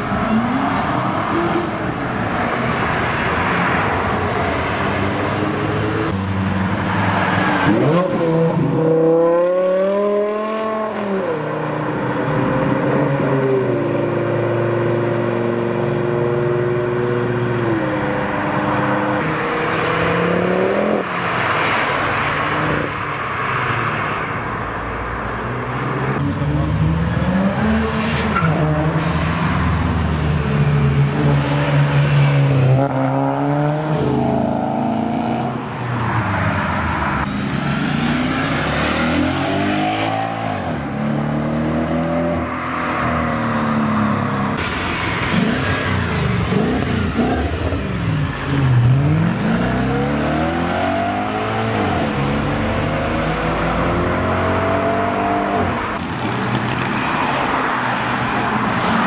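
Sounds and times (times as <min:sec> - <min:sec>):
car engines accelerating hard: 0:00.0 - 0:59.0
cars passing close by: 0:00.0 - 0:59.0.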